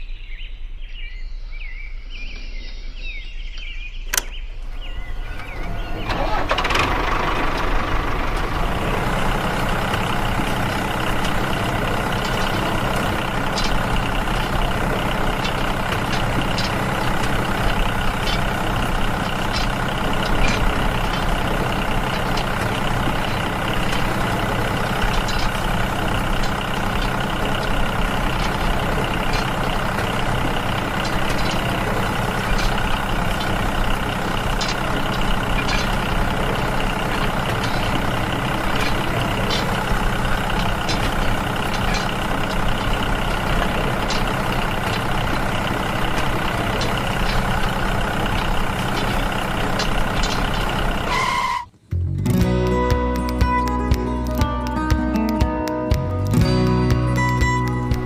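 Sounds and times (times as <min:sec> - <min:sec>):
small tractor engine running: 0:04.6 - 0:55.3, 0:55.9 - 0:58.0.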